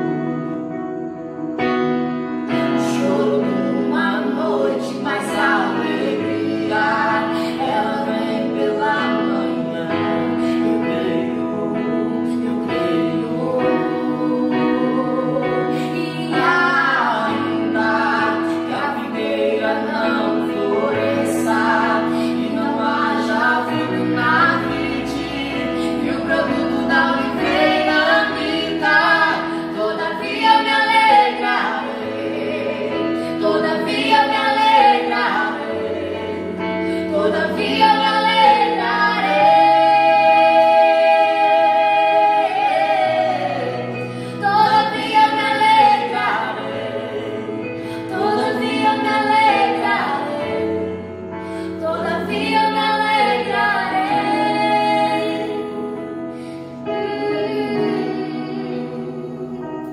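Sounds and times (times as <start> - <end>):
electronic keyboard chords: 0.0 - 59.9.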